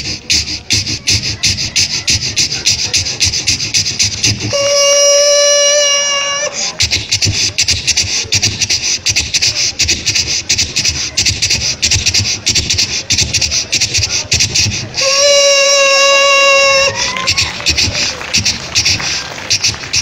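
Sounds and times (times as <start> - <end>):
man imitating train chugging: 0.0 - 20.0
whistle-like horn call: 0.1 - 9.5, 10.8 - 20.0.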